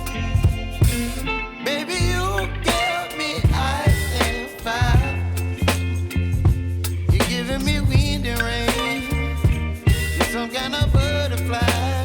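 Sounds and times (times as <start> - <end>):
pop song with vocals: 0.0 - 12.0.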